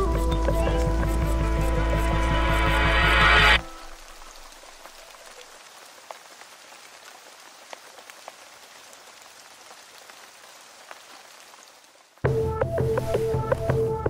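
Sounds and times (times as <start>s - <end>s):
light rain on pavement: 0.0s - 14.0s.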